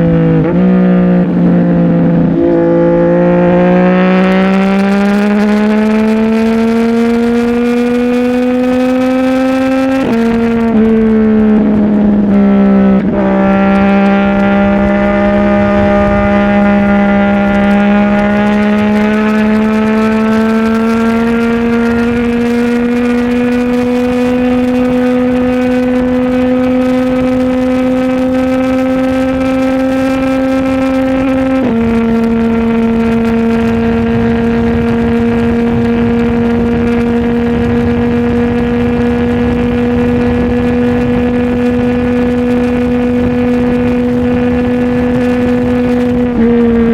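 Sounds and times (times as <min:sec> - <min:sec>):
motorcycle engine while riding: 0:00.0 - 0:46.9.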